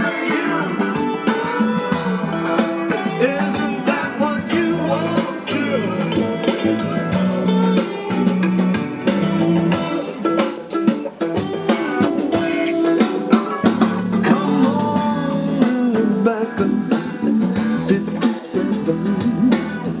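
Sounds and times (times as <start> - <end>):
music with guitar and drums: 0.0 - 20.0.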